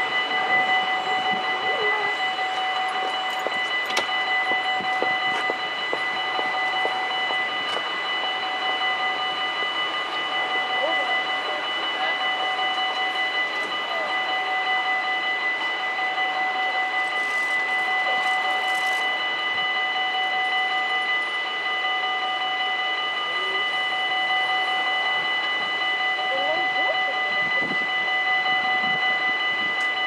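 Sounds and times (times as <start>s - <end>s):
level crossing warning bells: 0.0s - 30.0s.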